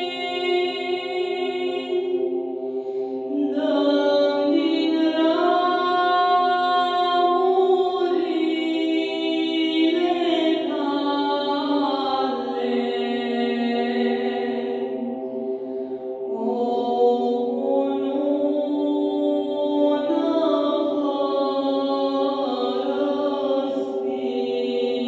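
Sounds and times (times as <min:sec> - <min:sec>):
woman singing unaccompanied: 0:00.0 - 0:02.3, 0:03.3 - 0:14.9, 0:16.3 - 0:25.0.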